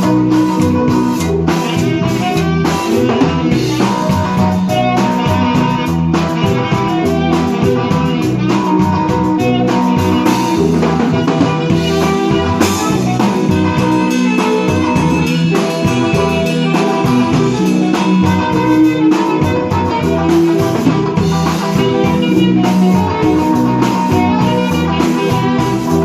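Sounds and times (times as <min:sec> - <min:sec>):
bass: 0:00.0 - 0:26.0
drum kit beat: 0:00.0 - 0:26.0
guitar: 0:00.0 - 0:26.0.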